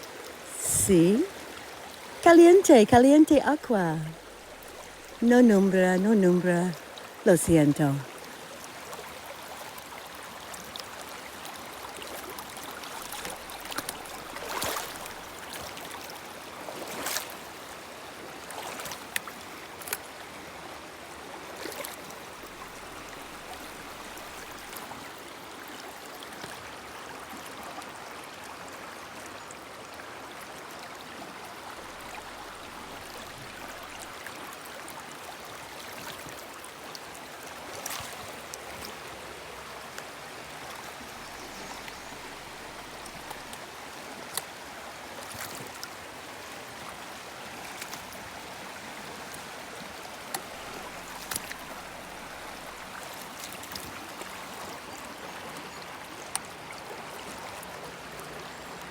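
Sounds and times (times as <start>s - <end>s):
river water rushing: 0.0s - 29.2s, 29.9s - 58.9s.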